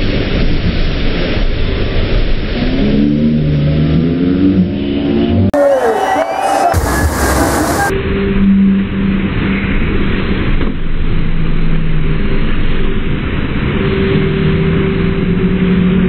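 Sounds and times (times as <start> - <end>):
slowed rushing water rumble: 0.0 - 5.5, 6.8 - 16.0.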